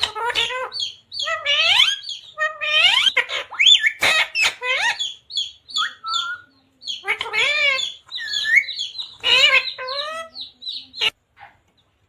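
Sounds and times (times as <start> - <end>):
parrot squawking and chattering: 0.0 - 11.7.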